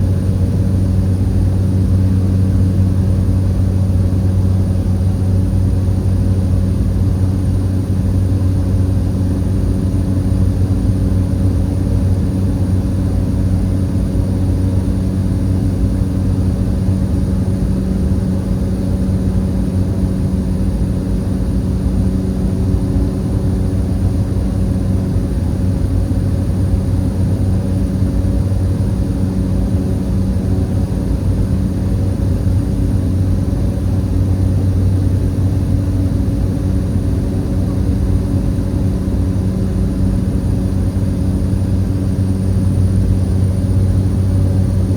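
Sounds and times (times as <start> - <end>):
propeller airliner engine drone: 0.0 - 44.9.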